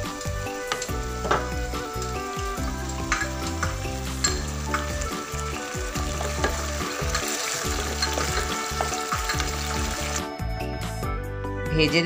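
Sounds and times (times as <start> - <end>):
vegetables sizzling in sauce: 0.0 - 10.3.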